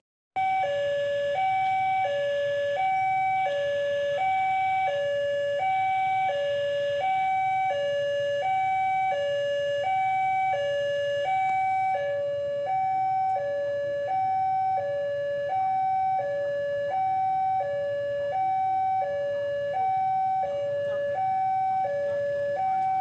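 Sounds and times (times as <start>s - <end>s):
level crossing two-tone alarm: 0.4s - 23.0s.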